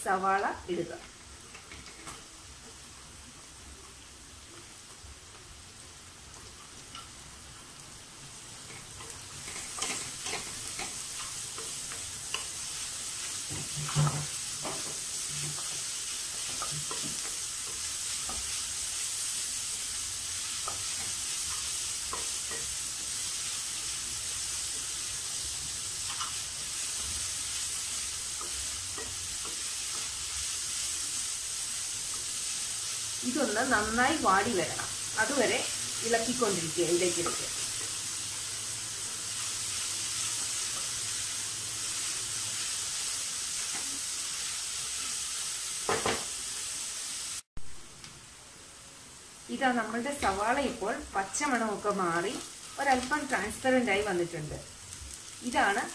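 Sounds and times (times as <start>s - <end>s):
onions sizzling in oil: 0.0s - 55.9s.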